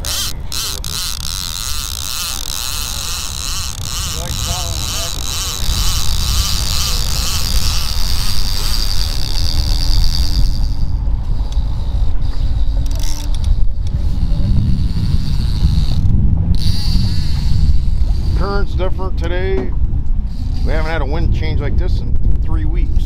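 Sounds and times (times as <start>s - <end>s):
fishing reel whirring and clicking: 0.0s - 18.8s, 20.3s - 21.5s
boat engine rumble: 0.0s - 23.0s
wind and water noise: 0.0s - 23.0s.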